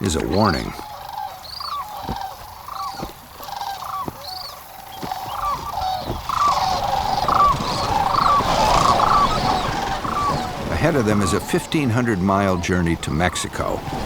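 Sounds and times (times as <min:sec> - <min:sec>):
cranes calling: 0:00.0 - 0:14.0.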